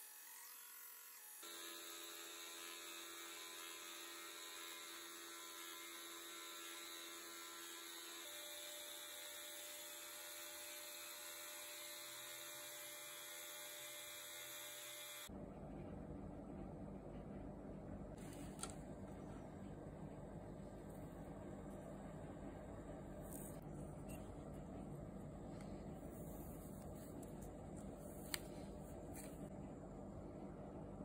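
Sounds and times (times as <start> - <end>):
faint motor hum: 0.0 - 31.0.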